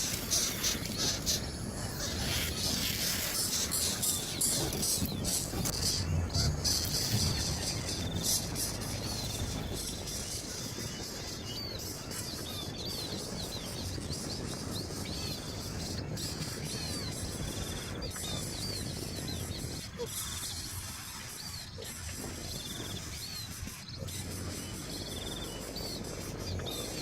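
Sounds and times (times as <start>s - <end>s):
birds chirping: 0.0s - 27.0s
insects trilling: 0.0s - 27.0s.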